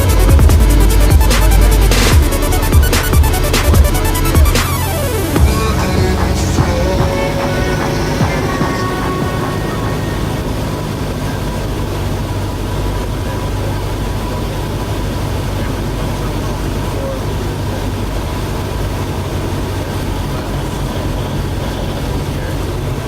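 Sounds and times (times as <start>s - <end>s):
airplane engine droning: 0.0s - 23.0s.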